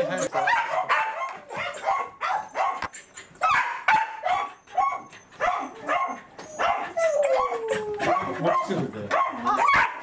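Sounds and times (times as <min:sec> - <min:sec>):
dog yelping and barking: 0:00.0 - 0:10.0.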